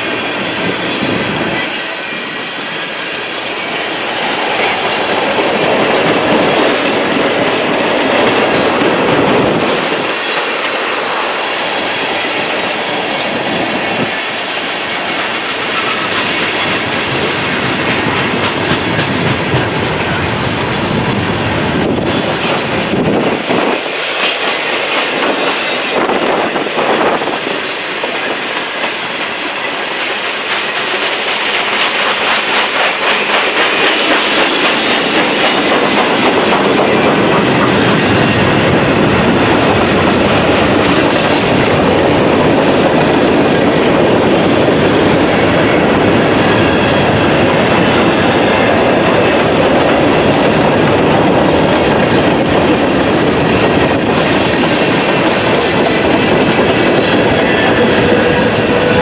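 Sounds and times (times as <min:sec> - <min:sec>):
train wheels clickety-clack: 0:00.0 - 0:59.0.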